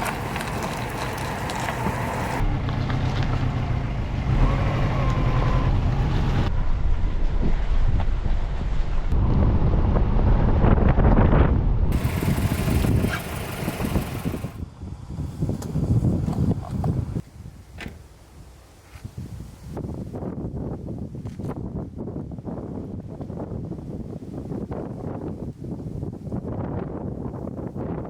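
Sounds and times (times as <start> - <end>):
road and engine noise: 0.0 - 25.4
wind on microphone: 4.4 - 18.0, 18.9 - 28.0.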